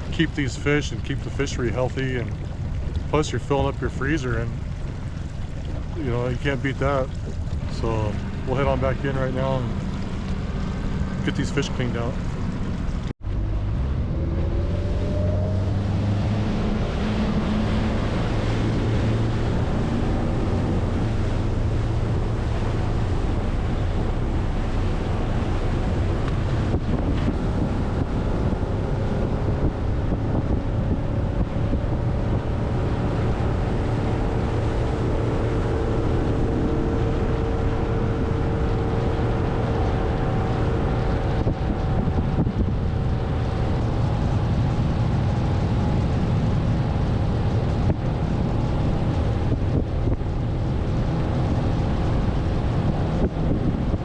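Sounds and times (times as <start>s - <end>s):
motorboat engine drone: 0.0s - 54.0s
wind on microphone: 0.0s - 54.0s.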